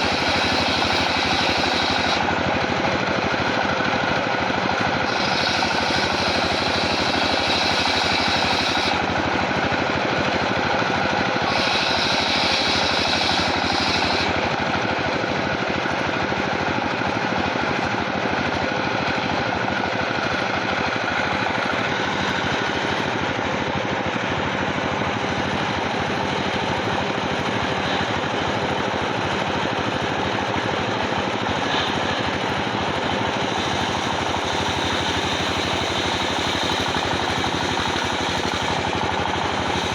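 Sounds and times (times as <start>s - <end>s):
sawmill machinery rattling: 0.0s - 39.9s.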